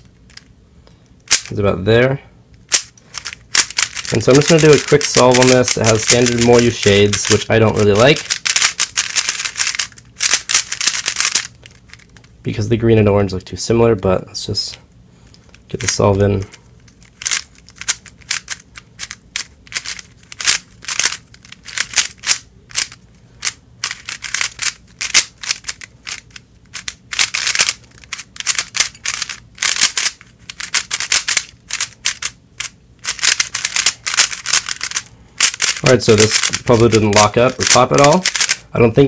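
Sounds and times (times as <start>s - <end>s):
speed cube clicking turns: 1.2s - 1.5s, 2.6s - 12.2s, 15.5s - 16.1s, 16.8s - 38.6s.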